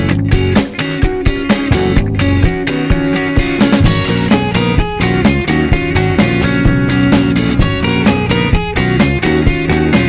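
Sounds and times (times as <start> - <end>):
electric bass: 0.0 - 10.0
electric guitars: 0.0 - 10.0
conga hand drums: 0.6 - 9.4.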